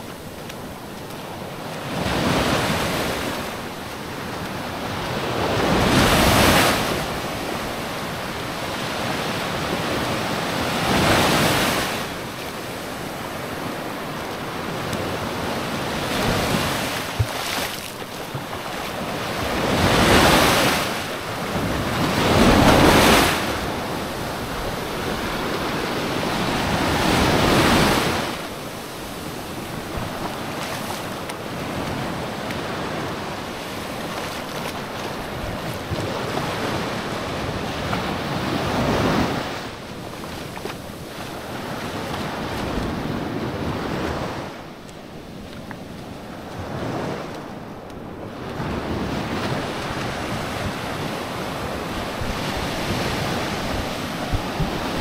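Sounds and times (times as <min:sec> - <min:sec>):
small waves breaking on beach: 0:00.0 - 0:55.0.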